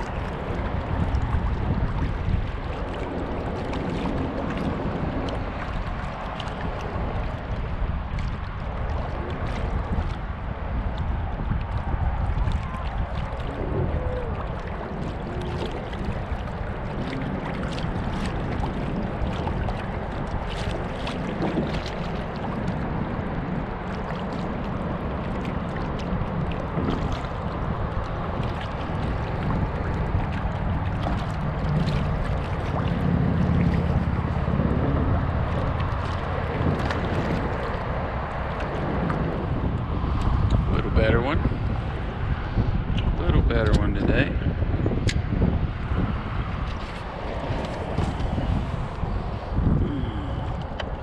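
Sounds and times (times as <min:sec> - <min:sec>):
water slapping and splashing: 0:00.0 - 0:51.0
wind buffeting microphone: 0:00.0 - 0:51.0.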